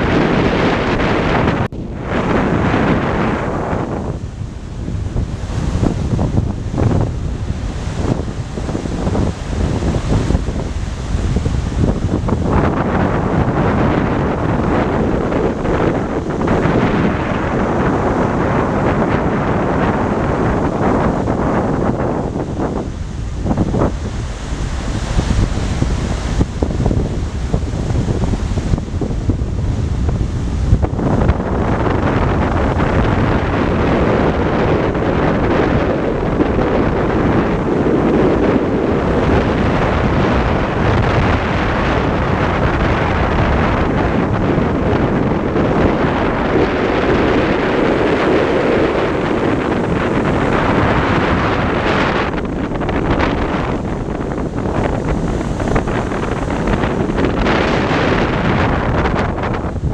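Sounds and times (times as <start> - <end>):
rough sea waves: 0.0 - 59.9
wind buffeting microphone: 0.0 - 59.9.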